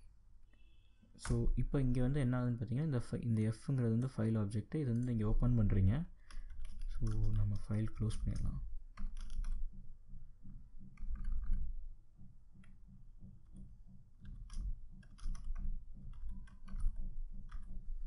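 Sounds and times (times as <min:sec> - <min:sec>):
low background hum: 0:00.0 - 0:18.0
keyboard typing clicks: 0:03.3 - 0:18.0.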